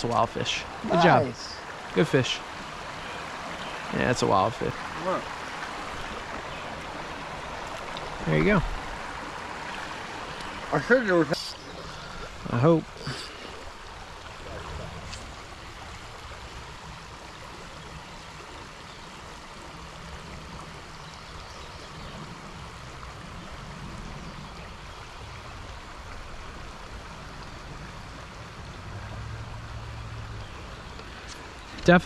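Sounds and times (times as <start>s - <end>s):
stream water running over rocks: 0.0s - 32.0s.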